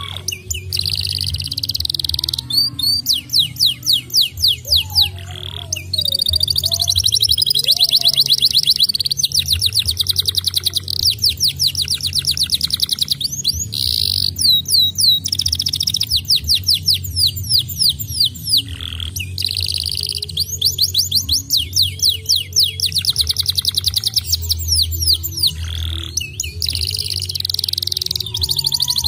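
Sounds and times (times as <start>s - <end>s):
canary singing trilled song: 0.0s - 29.0s.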